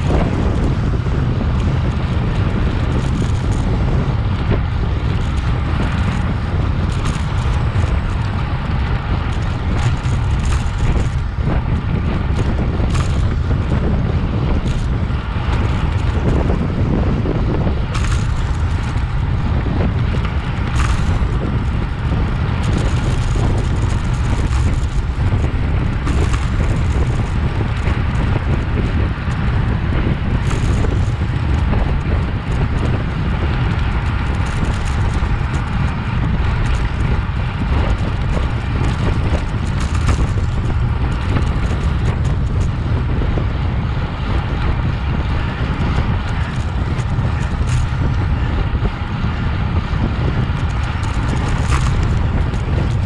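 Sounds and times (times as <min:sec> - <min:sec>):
wind rumble on microphone: 0:00.0 - 0:53.0.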